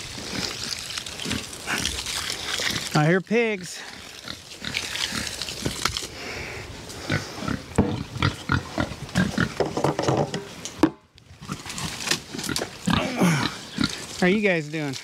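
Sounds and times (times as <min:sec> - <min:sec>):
pigs grunting: 0:00.0 - 0:03.0, 0:03.6 - 0:09.7, 0:11.4 - 0:14.4.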